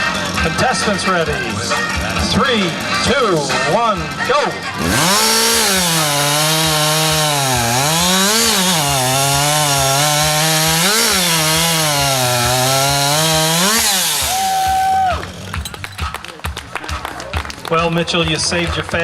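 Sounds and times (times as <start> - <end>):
chainsaw cutting: 0.0 - 17.7.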